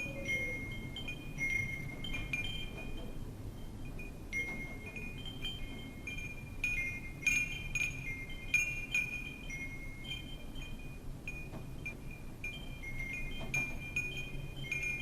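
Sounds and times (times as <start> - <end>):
wind chimes ringing: 0.0 - 15.0.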